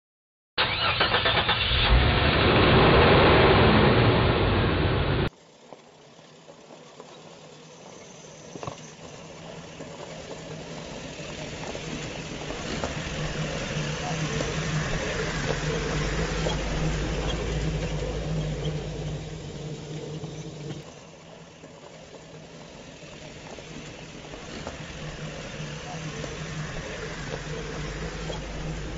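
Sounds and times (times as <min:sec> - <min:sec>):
motor hum: 0:04.3 - 0:28.9
rough running noise: 0:05.3 - 0:28.9.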